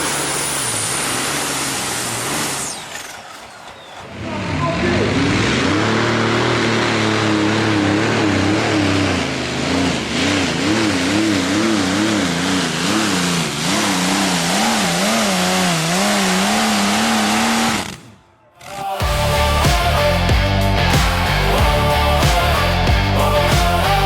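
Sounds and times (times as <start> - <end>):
tractor engine running hard: 0.0 - 18.0, 19.0 - 24.0.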